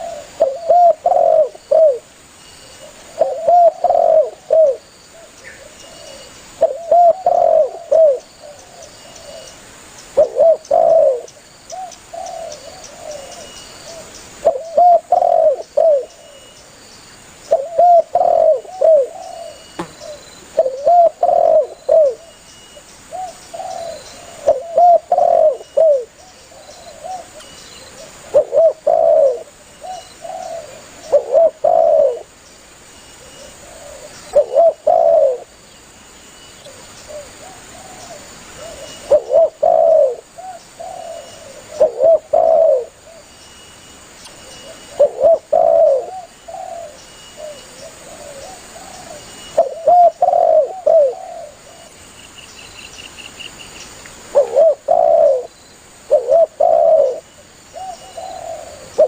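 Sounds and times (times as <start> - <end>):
dove cooing: 0.0 - 2.1, 2.7 - 9.6, 10.2 - 16.5, 17.5 - 22.3, 23.1 - 32.3, 33.2 - 35.5, 36.6 - 43.3, 44.4 - 51.9, 54.3 - 59.0.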